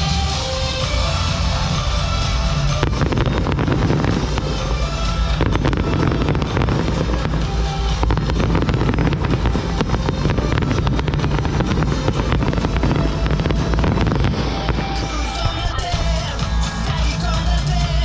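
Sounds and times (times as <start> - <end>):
fireworks booming and crackling: 0.0 - 18.0
music: 0.0 - 18.0.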